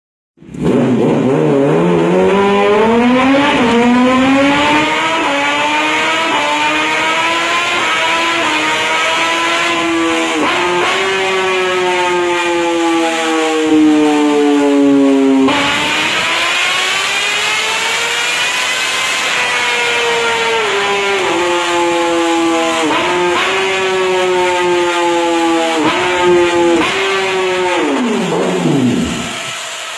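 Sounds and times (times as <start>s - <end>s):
motorcycle engine revving: 0.4s - 29.9s.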